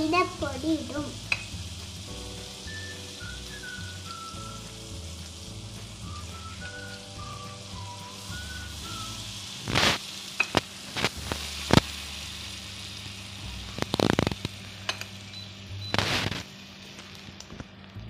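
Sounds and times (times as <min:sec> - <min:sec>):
flour and butter sizzling: 0:00.0 - 0:18.0.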